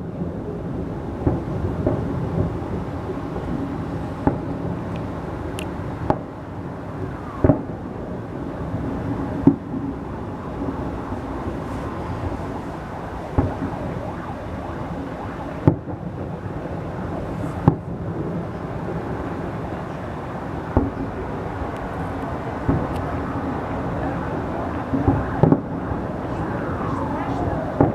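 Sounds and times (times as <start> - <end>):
fireworks booming: 0.1 - 27.9.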